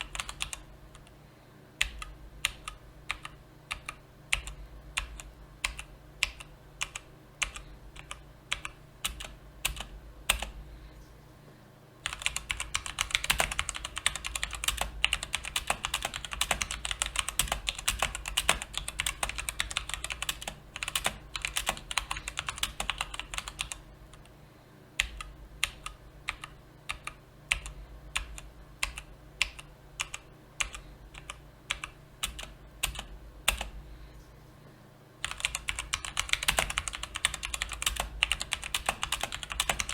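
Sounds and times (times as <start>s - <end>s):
mechanical keyboard typing: 0.0s - 1.1s, 1.8s - 10.5s, 12.0s - 24.3s, 25.0s - 33.7s, 35.2s - 39.9s.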